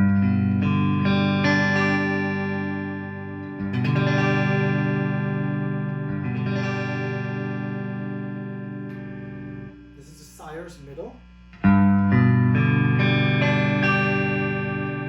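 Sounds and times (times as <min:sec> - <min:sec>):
clean electric guitar chords: 0:00.0 - 0:10.1, 0:11.6 - 0:15.0.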